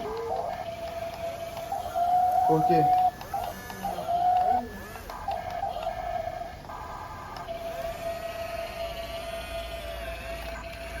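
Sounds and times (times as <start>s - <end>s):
small electric motor whining: 0.0s - 11.0s.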